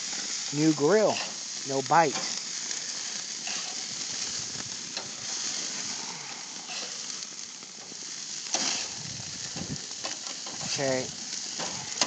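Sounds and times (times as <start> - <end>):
patties sizzling on a grill: 0.0 - 12.0.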